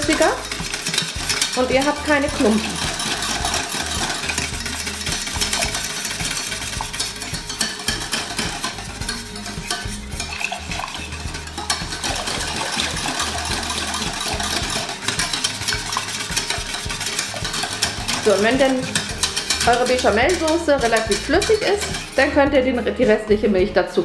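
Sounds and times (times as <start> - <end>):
whisk scraping a metal pot: 0.0 - 23.5.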